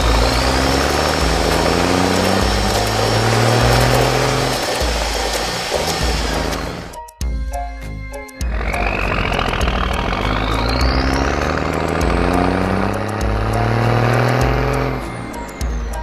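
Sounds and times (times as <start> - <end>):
cartoon machine motor running: 0.0 - 7.0, 8.5 - 16.0
rushing noise: 0.0 - 7.0, 8.5 - 16.0
background music: 0.0 - 16.0.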